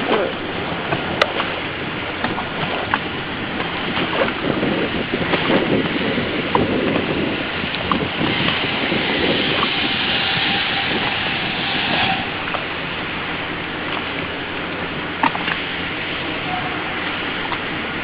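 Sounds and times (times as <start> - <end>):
waves washing: 0.0 - 18.0
wind buffeting microphone: 0.0 - 18.0.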